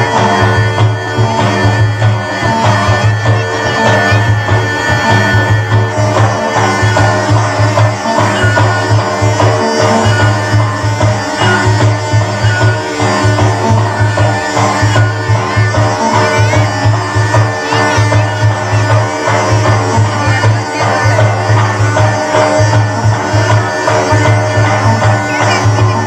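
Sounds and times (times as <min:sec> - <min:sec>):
folk music melodic instruments: 0:00.0 - 0:26.0
heavy drum beat: 0:00.0 - 0:26.0.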